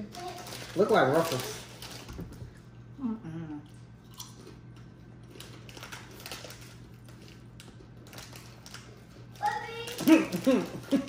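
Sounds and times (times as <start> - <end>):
crisps being chewed: 0.1 - 3.0, 3.6 - 11.0.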